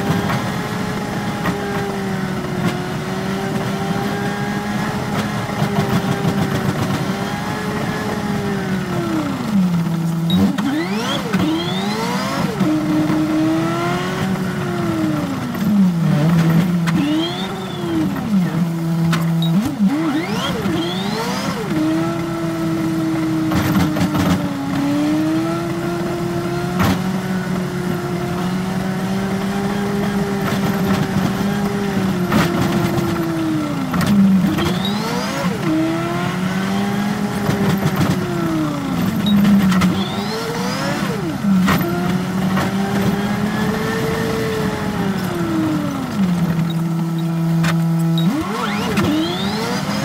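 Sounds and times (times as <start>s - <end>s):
bus engine running: 0.0s - 50.0s.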